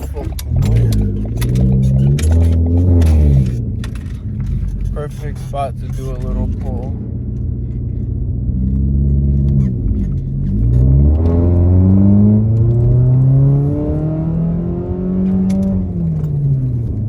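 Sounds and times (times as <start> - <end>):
car exhaust accelerating hard: 0.0 - 17.0.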